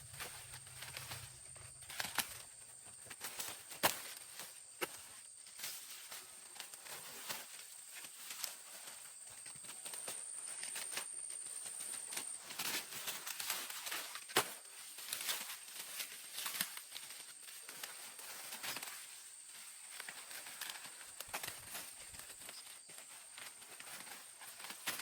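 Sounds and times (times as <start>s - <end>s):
plants rustling and crackling: 0.0s - 25.0s.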